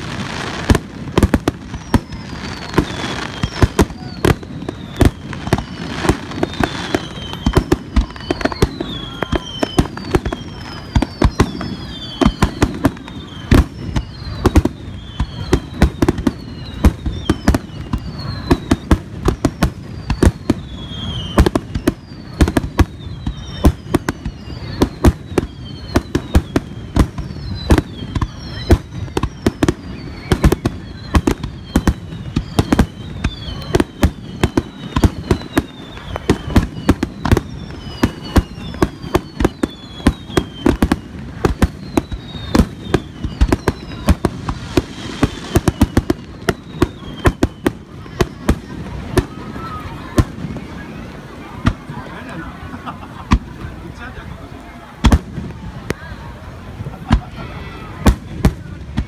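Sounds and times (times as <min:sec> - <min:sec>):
firework whistles sliding down: 0:00.0 - 0:52.4.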